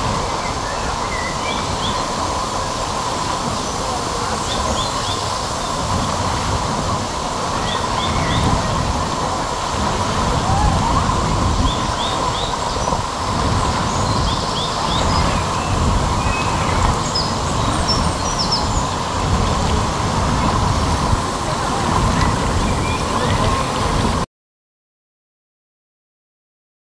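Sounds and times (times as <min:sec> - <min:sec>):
waterfall rushing: 0:00.0 - 0:24.3.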